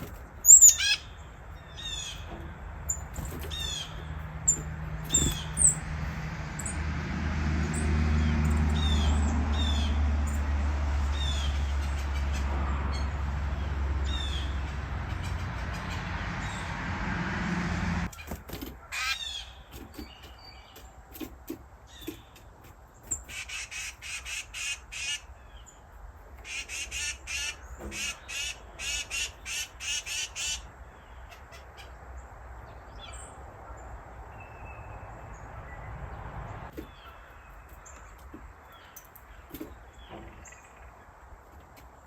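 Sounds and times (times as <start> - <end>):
small birds harsh calls: 0.0 - 7.0, 7.6 - 16.9, 18.0 - 42.0.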